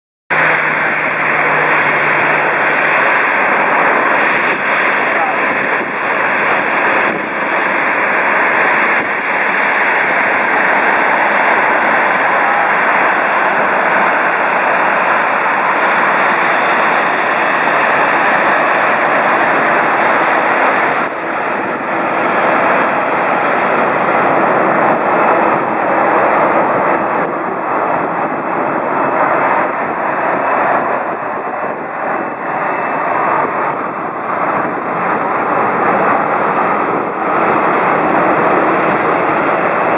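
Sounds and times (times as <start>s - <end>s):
jet engines at taxi power: 0.3s - 39.9s.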